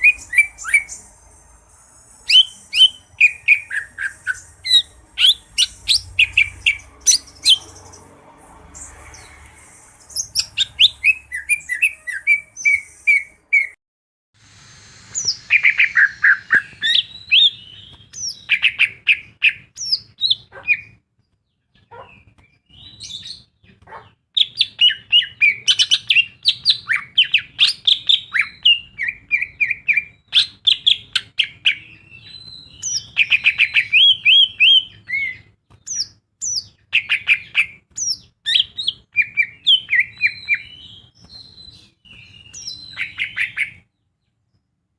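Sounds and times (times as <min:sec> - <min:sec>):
bird singing chirps and trills: 0:00.0 - 0:13.8, 0:15.0 - 0:44.6.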